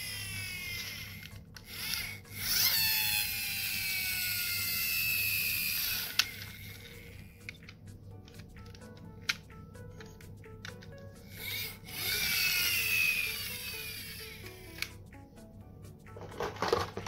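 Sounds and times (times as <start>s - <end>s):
toy wheels whirring: 0.0s - 15.0s.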